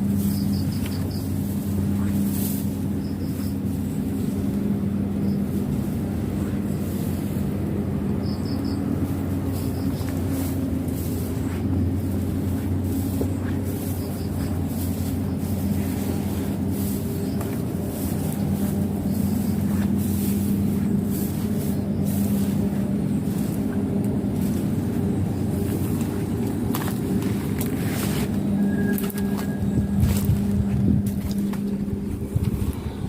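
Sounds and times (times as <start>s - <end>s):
engine running with low hum: 0.0s - 33.0s.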